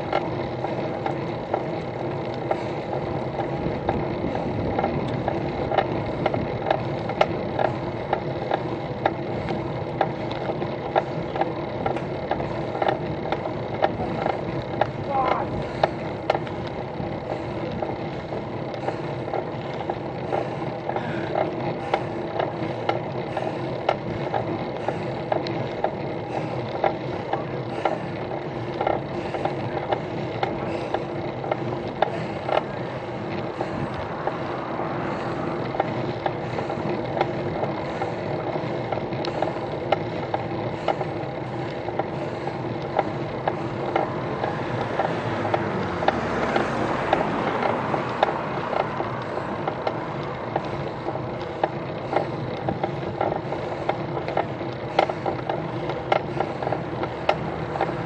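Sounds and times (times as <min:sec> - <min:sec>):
bicycle riding drone: 0:00.0 - 0:58.0
bike rattles and clicks: 0:00.0 - 0:58.0.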